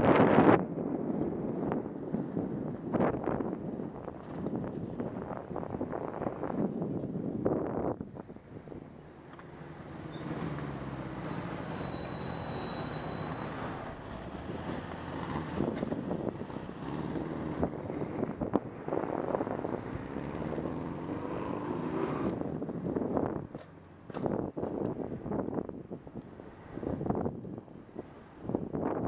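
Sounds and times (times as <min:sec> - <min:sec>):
car and truck engines: 0:00.0 - 0:29.0.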